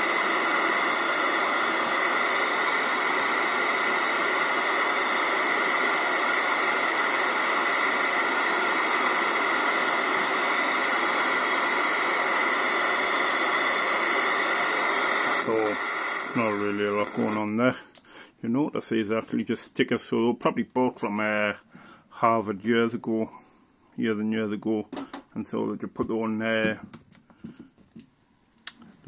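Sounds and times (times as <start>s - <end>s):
radio static hiss: 0.0s - 23.4s.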